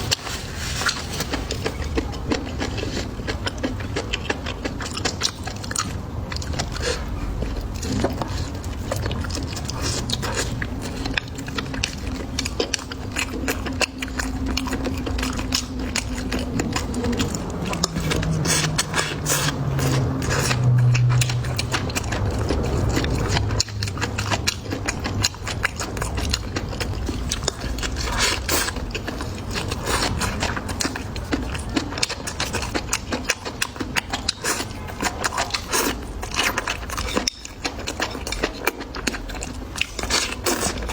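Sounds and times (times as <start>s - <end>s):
low steady hum: 0.0s - 40.9s
wet chewing and crunchy biting: 0.0s - 40.9s.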